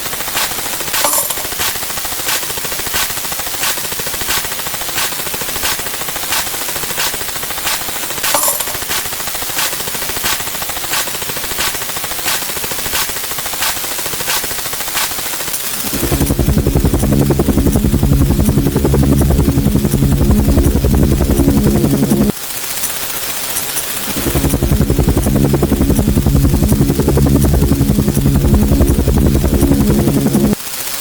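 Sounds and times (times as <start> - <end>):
sharp clicks: 0.0 - 22.3, 23.7 - 30.6
clatter of sound effects: 0.0 - 30.7.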